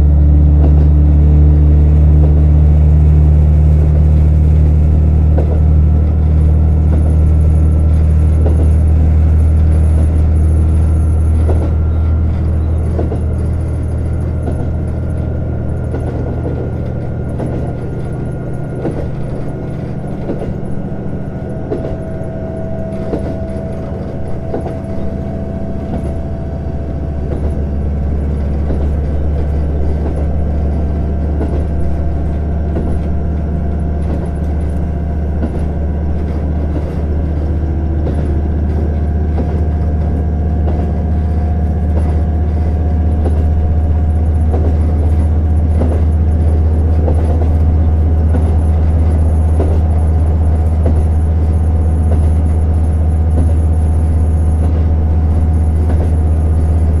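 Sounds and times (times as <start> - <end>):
diesel engine drone: 0.0 - 57.0
wheels on rails: 0.0 - 57.0.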